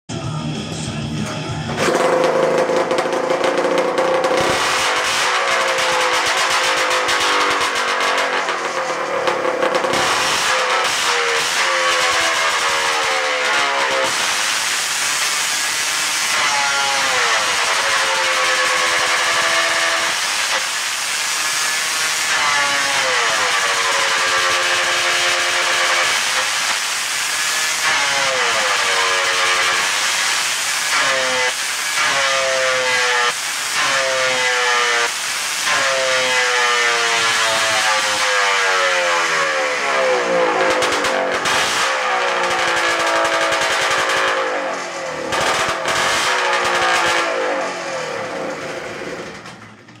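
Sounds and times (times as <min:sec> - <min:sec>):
two-stroke engine revving: 0:01.2 - 0:50.0.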